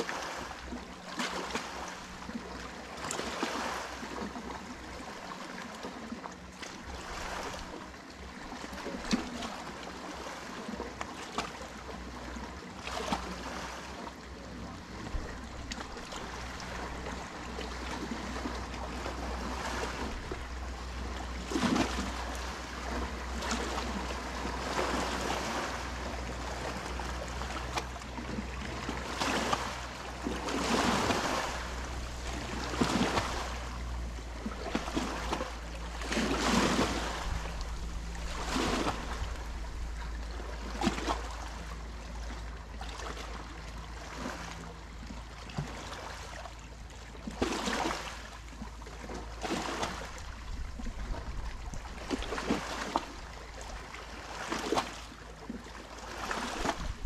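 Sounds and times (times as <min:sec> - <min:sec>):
low engine hum: 0:00.0 - 0:57.0
waves lapping on rocks: 0:00.0 - 0:57.0.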